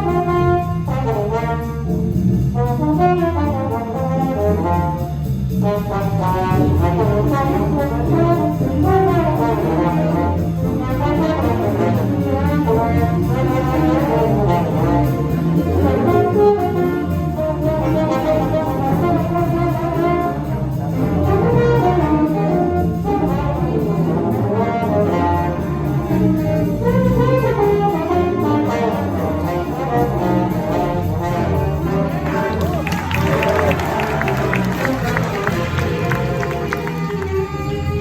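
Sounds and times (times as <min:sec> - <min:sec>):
jazz big band playing: 0:00.0 - 0:38.0.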